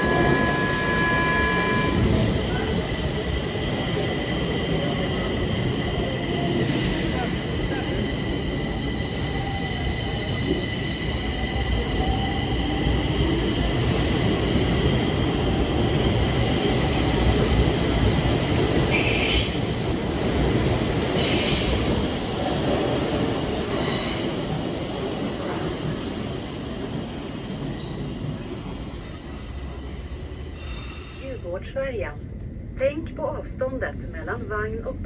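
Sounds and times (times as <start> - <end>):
metro train rumbling on rails: 0.0 - 35.0.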